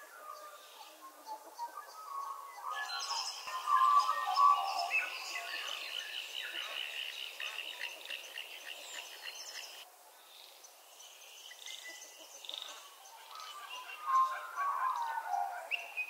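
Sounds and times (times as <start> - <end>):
birds singing and chirping: 0.0 - 9.8, 10.4 - 16.0.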